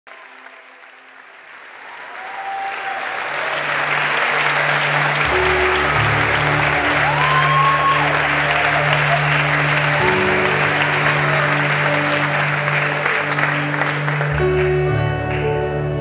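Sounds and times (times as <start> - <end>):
congregation applauding and cheering: 0.1 - 16.0.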